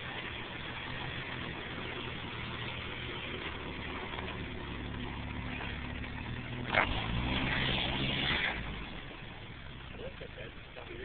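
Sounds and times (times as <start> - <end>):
engine climbing a hill: 0.0 - 11.0.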